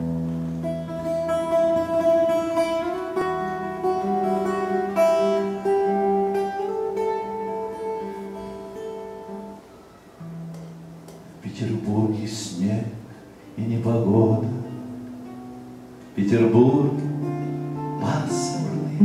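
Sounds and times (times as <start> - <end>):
acoustic guitar playing slowly: 0.0 - 19.0.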